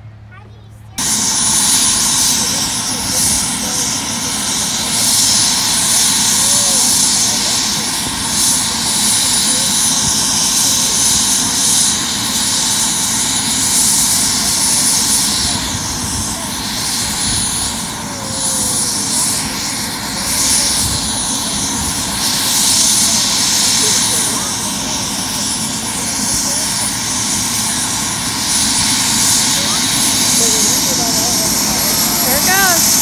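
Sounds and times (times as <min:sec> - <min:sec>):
helicopter engine and rotor: 0:00.2 - 0:33.0.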